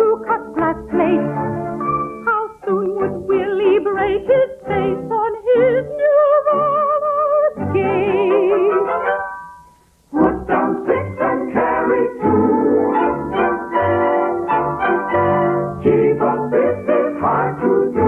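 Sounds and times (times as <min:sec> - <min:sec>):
operetta singing with orchestra: 0:00.0 - 0:09.2, 0:10.1 - 0:18.0.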